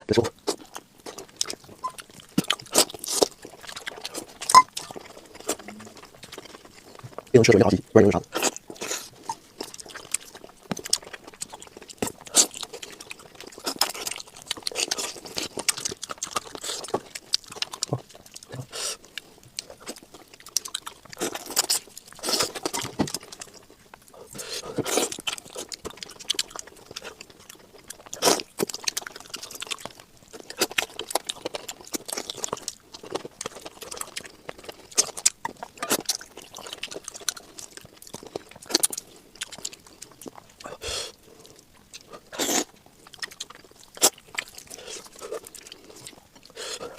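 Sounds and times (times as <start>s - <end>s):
crunching and chewing food: 0.1s - 46.9s.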